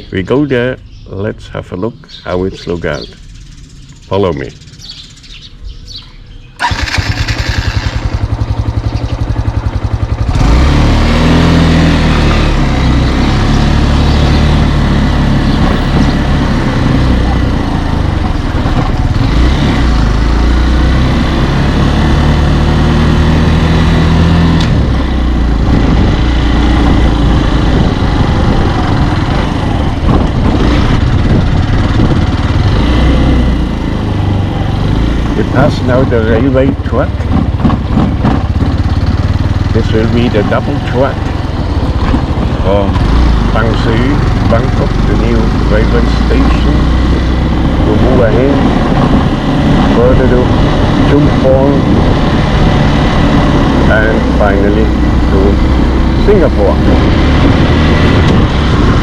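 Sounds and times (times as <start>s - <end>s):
vehicle engine driving: 0.0s - 59.0s.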